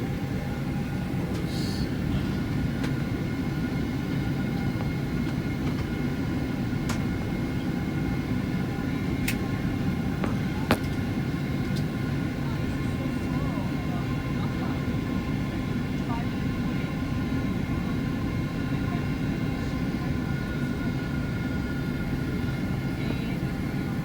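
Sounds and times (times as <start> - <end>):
aircraft cabin engine rumble: 0.0 - 24.0.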